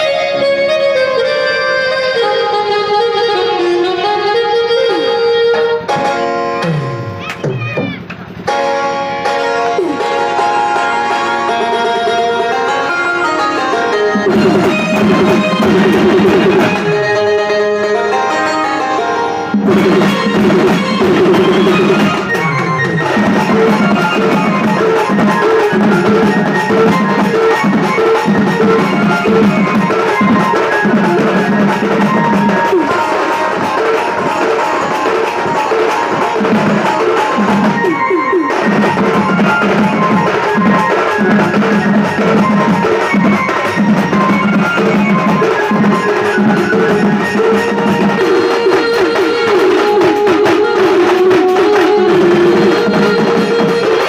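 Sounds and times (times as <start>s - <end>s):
folk dance music with drum beat: 5.9s - 18.5s, 19.6s - 54.0s.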